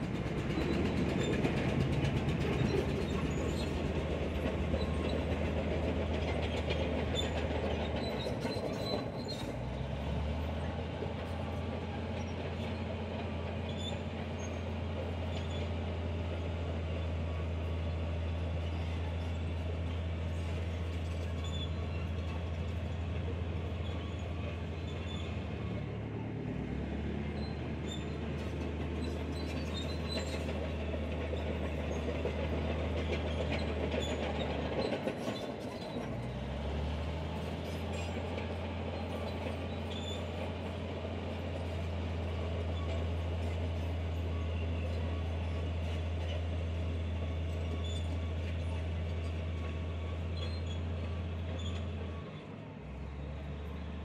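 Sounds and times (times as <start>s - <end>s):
faint clanking tracks: 0.0s - 9.8s, 10.6s - 54.0s
bulldozer diesel engine running: 0.0s - 54.0s.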